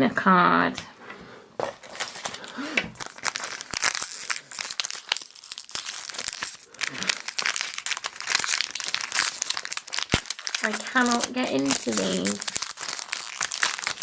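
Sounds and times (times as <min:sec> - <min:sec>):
wrapper crinkling and tearing: 0:01.6 - 0:14.0.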